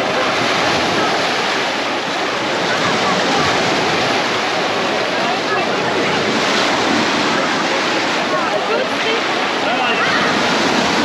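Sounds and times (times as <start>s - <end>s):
crowd chattering: 0.0s - 11.0s
waves washing on shore: 0.0s - 11.0s.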